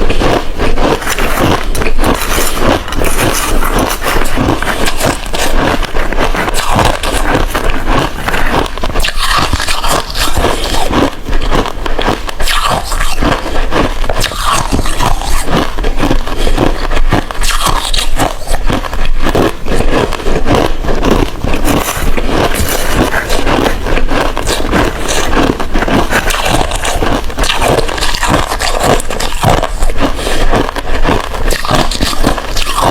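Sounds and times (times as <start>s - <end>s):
ice being chewed and crunched: 0.0s - 32.9s.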